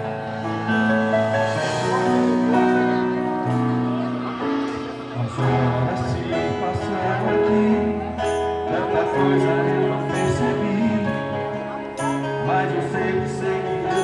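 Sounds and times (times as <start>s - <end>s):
guitar: 0.0s - 14.0s
keyboard chords: 0.0s - 14.0s.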